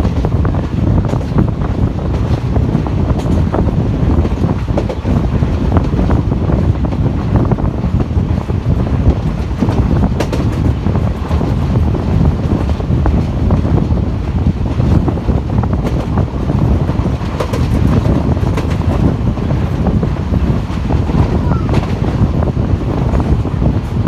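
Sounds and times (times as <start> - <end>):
train wheels rumbling on rails: 0.0 - 24.0
wind buffeting microphone: 0.0 - 24.0.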